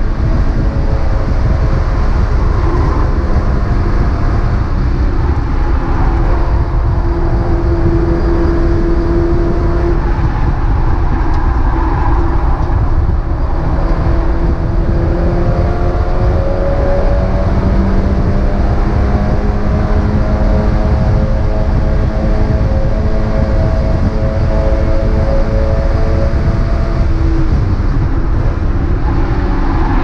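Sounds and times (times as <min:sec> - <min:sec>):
race car engine accelerating: 0:00.0 - 0:30.0
road and wind noise: 0:00.0 - 0:30.0.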